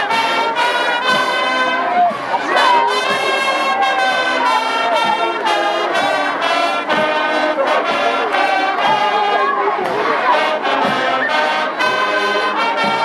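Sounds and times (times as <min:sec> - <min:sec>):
marching band brass playing: 0:00.0 - 0:13.0
drum hits: 0:00.1 - 0:13.0.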